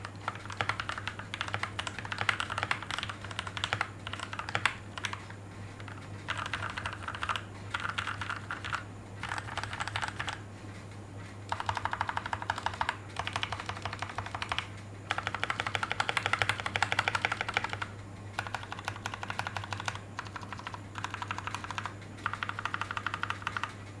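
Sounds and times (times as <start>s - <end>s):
mechanical keyboard typing: 0.0s - 10.4s, 11.5s - 23.8s.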